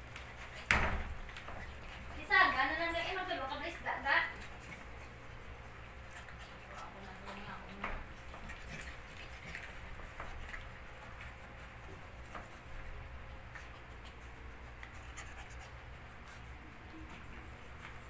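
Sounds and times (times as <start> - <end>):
puppies scuffling in play: 0.0 - 18.0.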